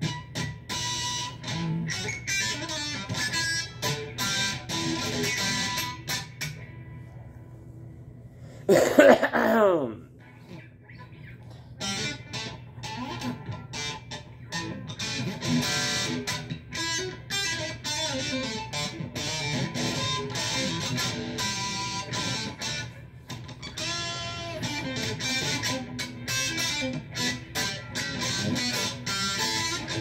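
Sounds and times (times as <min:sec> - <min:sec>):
electric guitar: 0:00.0 - 0:07.7, 0:08.4 - 0:30.0.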